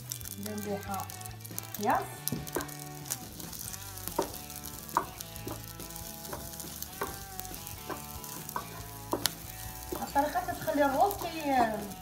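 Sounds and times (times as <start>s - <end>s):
rice and onion sizzling in oil: 0.0s - 12.0s
wooden spatula scraping pan: 1.8s - 12.0s.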